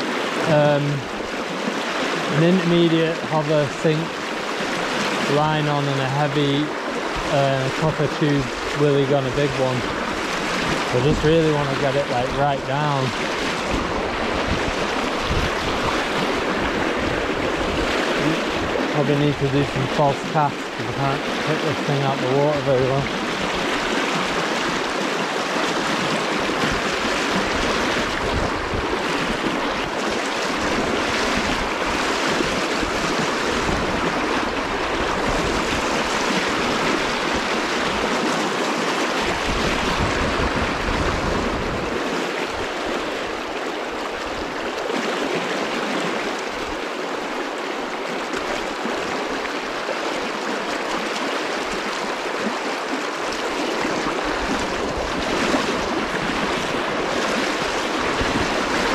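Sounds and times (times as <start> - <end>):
water rushing over stones: 0.0 - 58.9.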